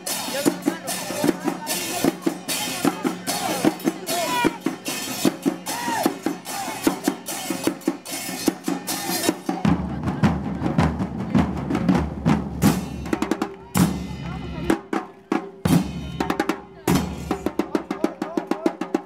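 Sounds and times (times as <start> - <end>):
bass and snare drumming: 0.0 - 19.0.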